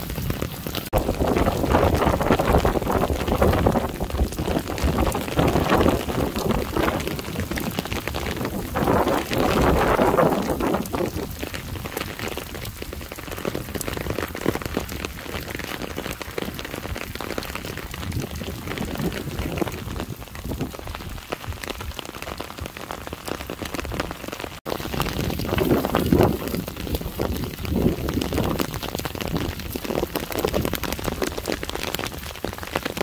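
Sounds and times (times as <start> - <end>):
rain falling on asphalt: 0.0 - 33.0.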